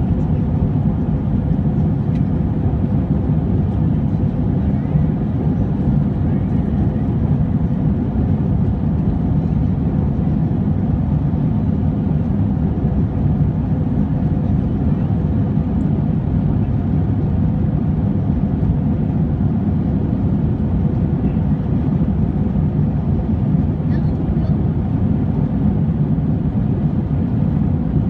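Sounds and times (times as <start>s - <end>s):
aircraft cabin engine rush: 0.0s - 28.0s.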